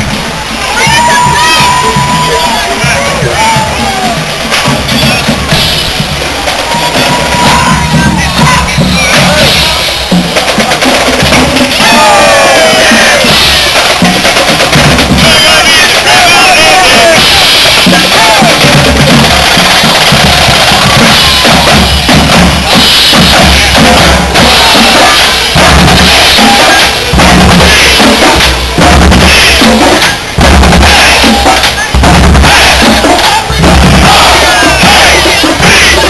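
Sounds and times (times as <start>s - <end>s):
bass and snare drums beating: 0.0s - 36.0s
marching band playing loudly: 0.0s - 36.0s.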